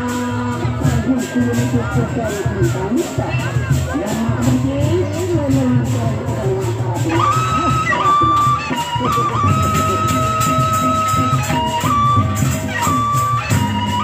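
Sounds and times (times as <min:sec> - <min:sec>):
hand drums: 0:00.0 - 0:14.0
high held melody: 0:00.0 - 0:14.0.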